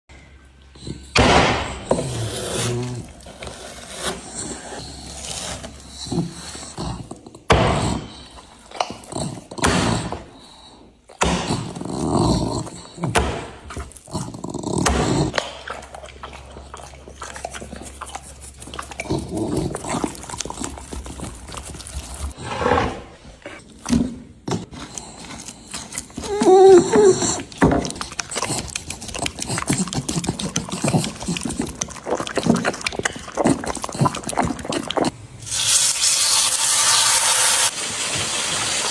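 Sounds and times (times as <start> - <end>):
dogs growling and snarling: 0.7 - 35.2.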